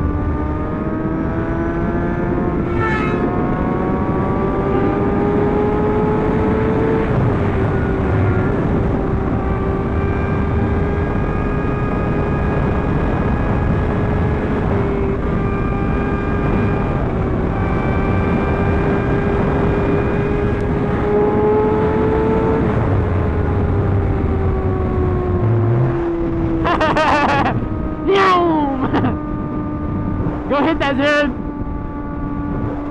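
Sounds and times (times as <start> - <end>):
motorcycle engine cruising: 0.0 - 32.9
wind noise rushing: 0.0 - 32.9.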